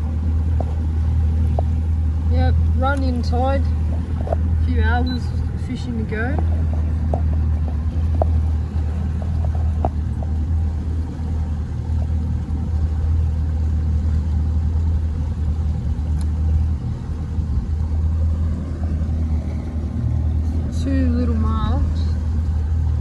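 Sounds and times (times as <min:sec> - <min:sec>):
outboard motor rumbling: 0:00.0 - 0:23.0.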